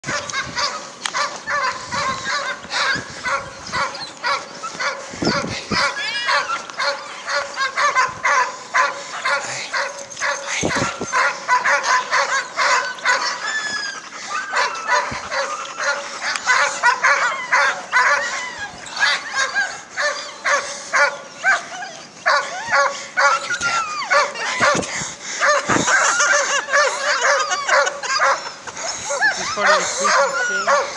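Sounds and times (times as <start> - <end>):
dogs barking and yipping: 0.0 - 30.9.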